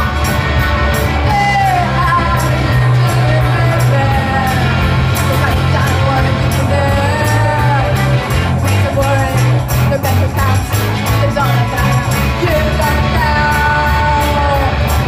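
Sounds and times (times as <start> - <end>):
bass guitar: 0.0 - 15.0
electric guitars: 0.0 - 15.0
person singing: 0.0 - 15.0.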